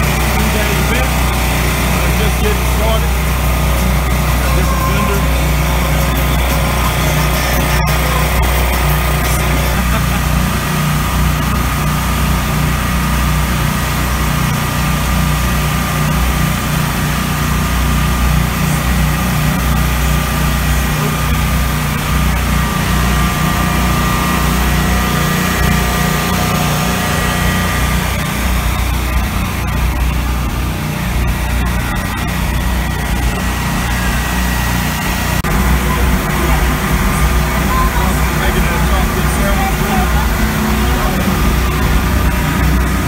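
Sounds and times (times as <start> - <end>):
generators droning: 0.0 - 43.0
thin steady whine: 0.0 - 43.0.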